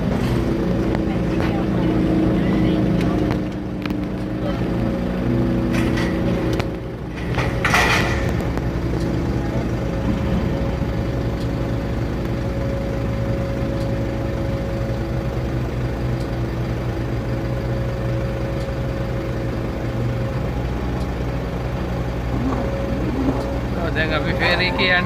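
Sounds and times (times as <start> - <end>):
engine idling: 0.0 - 25.0
steady high whine: 0.0 - 25.0.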